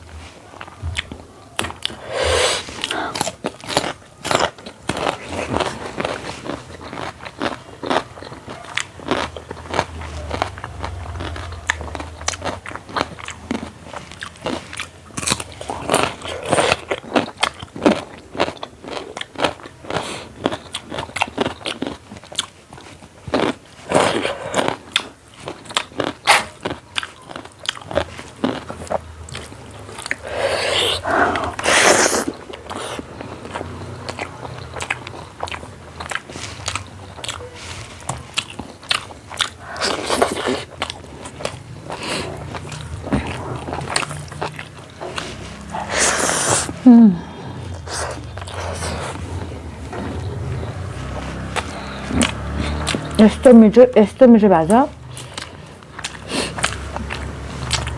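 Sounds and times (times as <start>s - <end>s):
chewing and crunching food: 0.0s - 57.9s.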